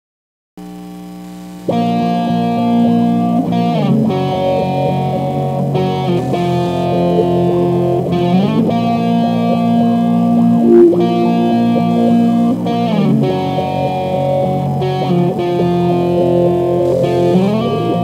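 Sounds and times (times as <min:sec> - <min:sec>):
distorted electric guitar chords: 0:01.6 - 0:18.0.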